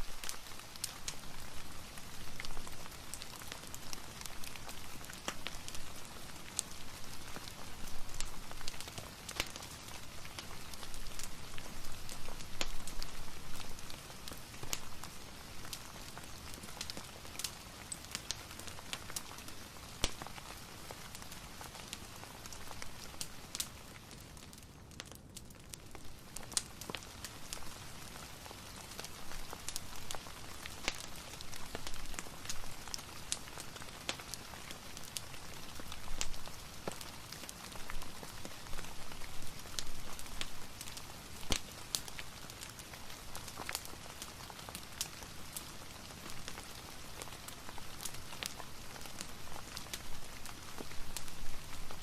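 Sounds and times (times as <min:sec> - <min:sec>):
steady rain: 0:00.0 - 0:52.0
wood fire crackling: 0:00.0 - 0:52.0.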